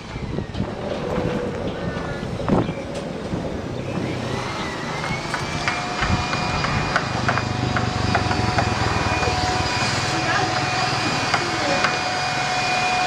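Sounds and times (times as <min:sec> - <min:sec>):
motor humming and whining: 0:00.0 - 0:13.0.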